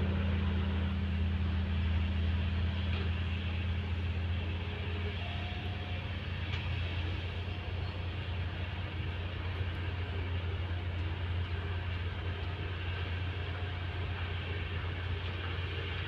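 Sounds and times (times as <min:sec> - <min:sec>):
diesel engine of heavy machinery: 0:00.0 - 0:16.0.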